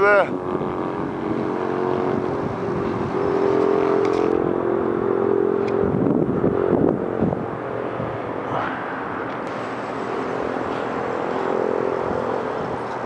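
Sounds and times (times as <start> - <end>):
model airplane motor drone: 0.0 - 13.0.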